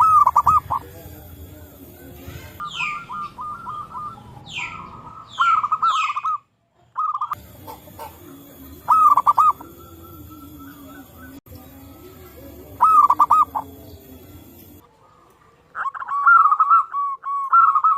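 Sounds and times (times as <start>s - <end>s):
sharp down-slurred bird calls: 0.0s - 0.9s, 2.1s - 17.9s
doves cooing: 0.0s - 17.9s.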